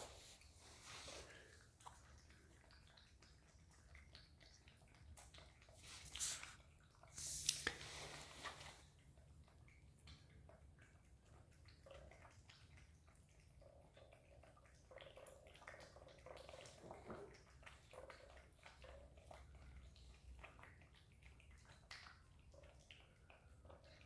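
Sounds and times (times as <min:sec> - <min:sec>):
cats lapping and chewing: 0:00.0 - 0:24.0.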